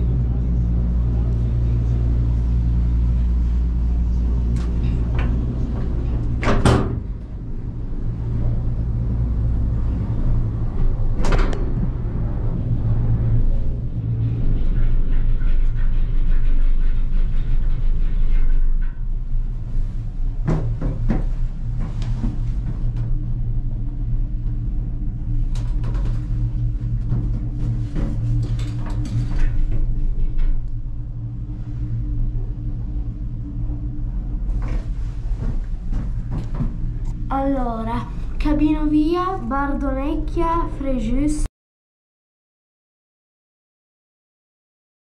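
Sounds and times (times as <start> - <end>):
gondola cabin hum and rumble: 0.0 - 41.5.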